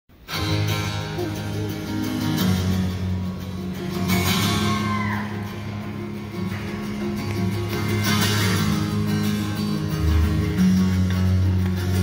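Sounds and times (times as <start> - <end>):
band playing guitars: 0.1 - 12.0.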